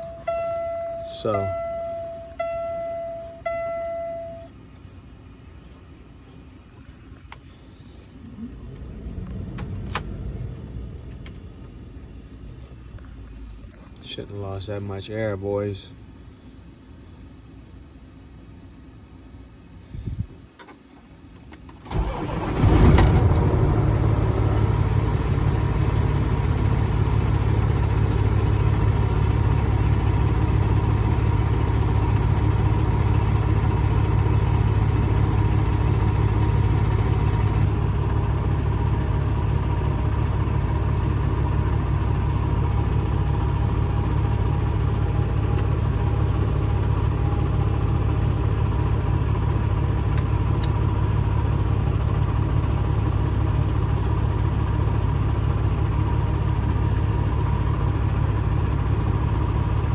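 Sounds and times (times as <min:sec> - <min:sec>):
diesel truck engine starting and idling: 0:00.0 - 0:04.5, 0:07.4 - 0:14.7, 0:21.7 - 0:59.9.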